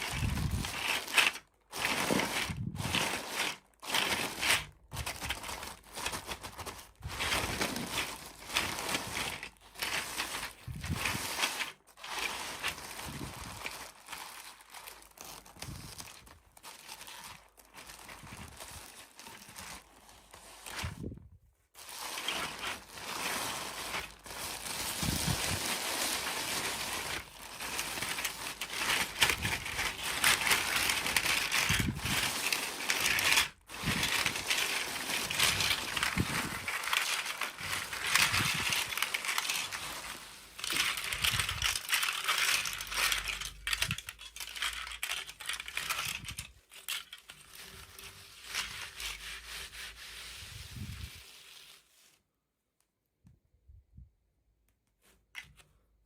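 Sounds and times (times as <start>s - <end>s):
plastic packaging crinkling: 0.0s - 52.2s.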